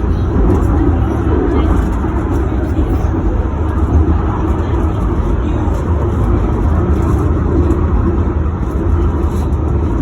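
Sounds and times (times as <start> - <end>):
tram rumbling: 0.0 - 10.0.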